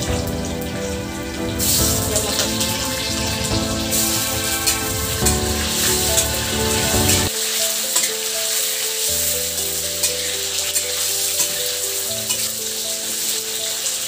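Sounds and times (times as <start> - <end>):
background music with held notes: 0.0 - 14.0
onions sizzling in hot oil: 1.6 - 14.0.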